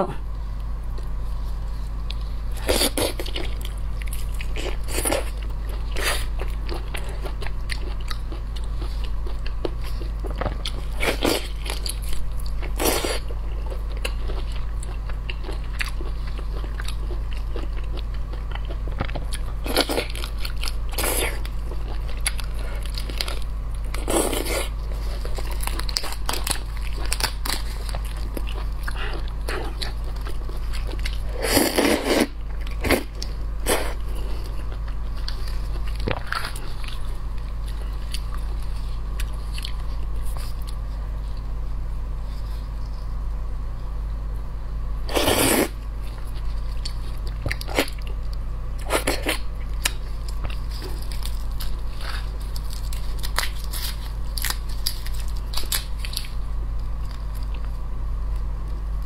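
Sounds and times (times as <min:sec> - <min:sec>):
steady low hum: 0:00.0 - 0:59.0
chewing and biting: 0:02.0 - 0:41.5, 0:45.1 - 0:57.9.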